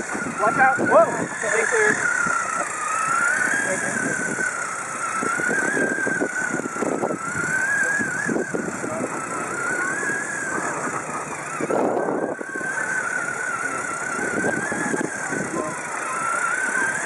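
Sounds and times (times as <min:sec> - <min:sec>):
robot rover electric whine: 0:00.0 - 0:17.0.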